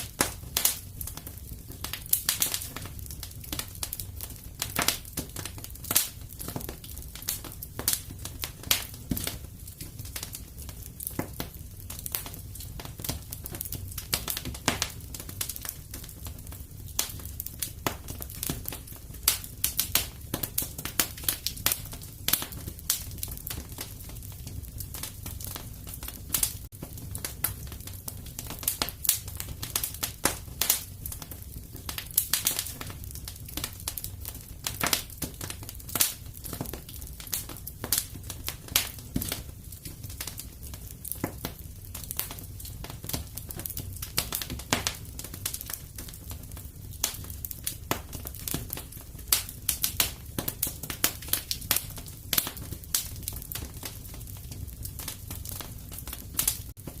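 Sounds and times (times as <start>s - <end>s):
rumble of flames: 0.0s - 57.0s
wood fire crackling: 0.0s - 57.0s.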